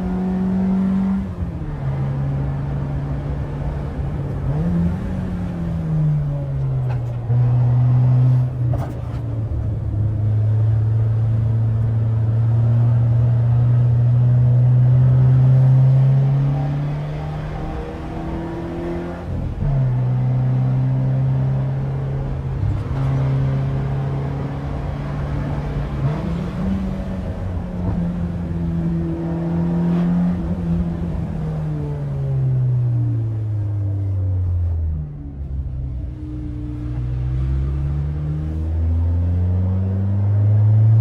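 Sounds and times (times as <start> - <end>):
car engine revving under load: 0.0 - 41.0.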